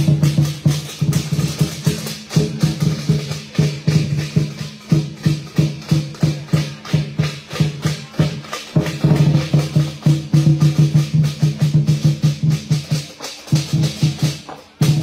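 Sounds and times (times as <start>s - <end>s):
cymbals clashing: 0.0s - 15.0s
lion dance drum beating: 0.0s - 15.0s.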